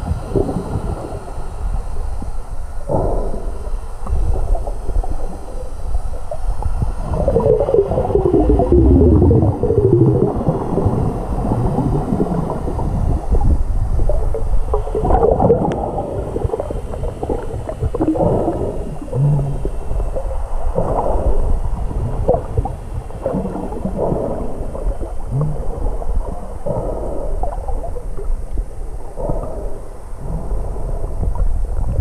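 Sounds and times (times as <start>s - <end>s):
dull swells of water: 0.0s - 32.0s
muffled underwater rumble: 0.0s - 32.0s.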